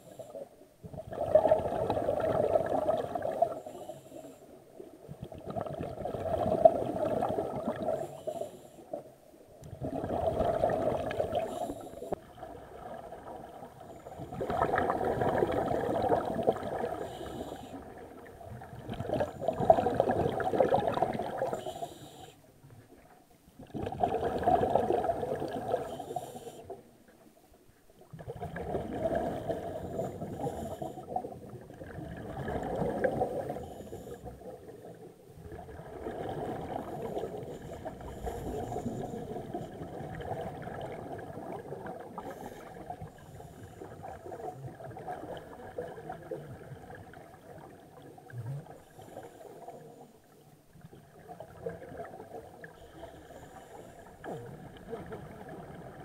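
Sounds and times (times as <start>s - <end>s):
regulator bubbles gurgling underwater: 0.0s - 56.0s.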